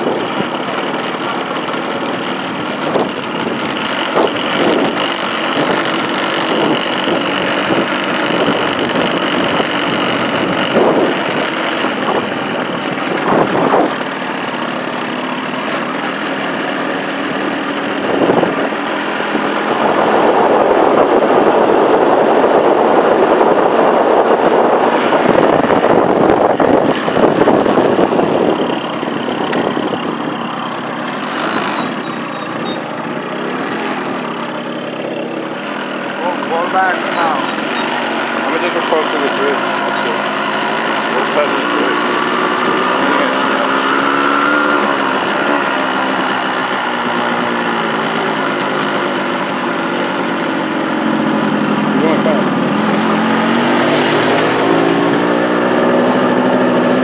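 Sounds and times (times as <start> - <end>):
tyres rumbling on gravel: 0.0 - 57.0
vehicle engine running: 0.0 - 57.0.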